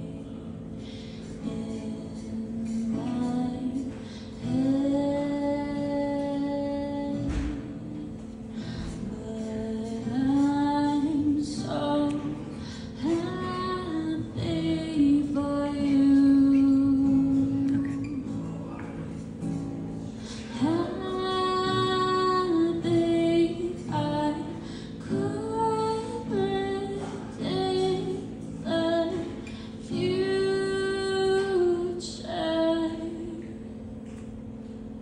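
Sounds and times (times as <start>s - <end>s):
woman singing: 0.0s - 18.5s, 20.3s - 33.6s
strummed acoustic guitar: 0.0s - 35.0s.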